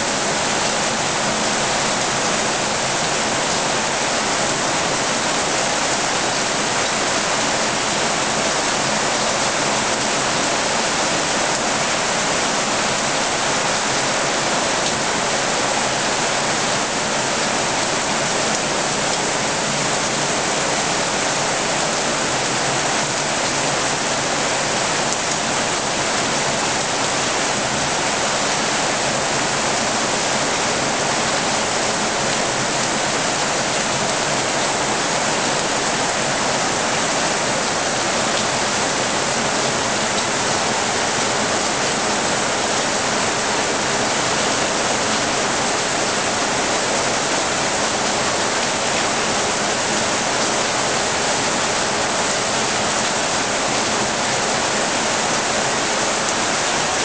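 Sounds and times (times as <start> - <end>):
heavy rain on paving and plants: 0.0 - 57.0.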